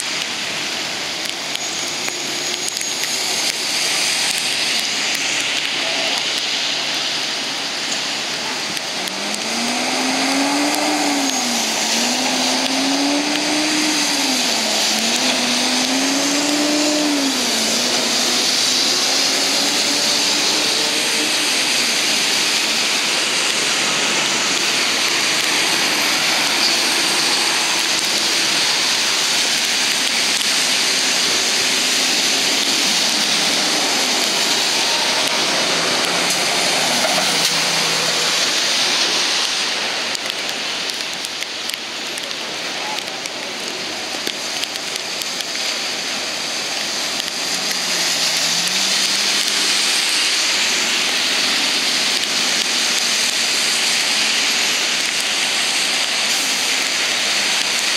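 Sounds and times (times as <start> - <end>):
heavy rain hiss: 0.0 - 57.9.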